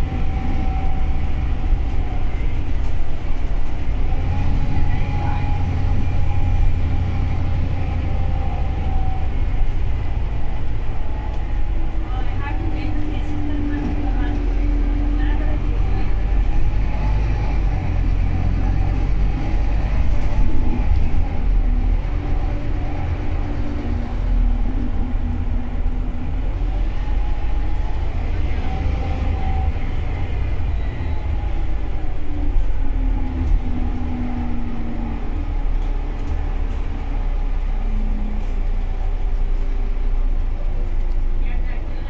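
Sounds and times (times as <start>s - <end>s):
bus engine and road noise: 0.0s - 42.0s.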